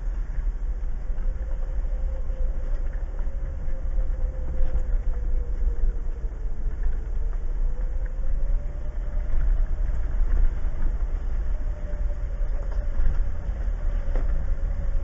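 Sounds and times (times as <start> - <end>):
car engine running low: 0.0 - 15.0
faint steady whine: 0.0 - 15.0.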